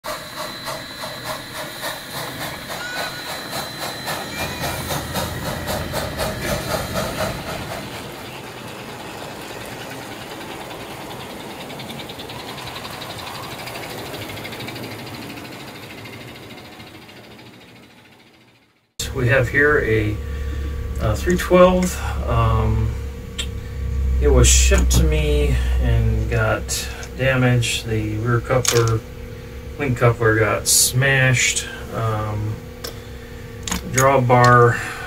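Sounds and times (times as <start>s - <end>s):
steam locomotive chuffing: 0.0s - 35.0s.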